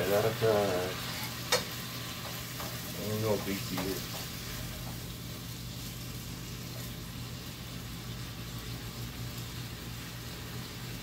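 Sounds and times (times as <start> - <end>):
food hissing on gas stove: 0.0 - 11.0.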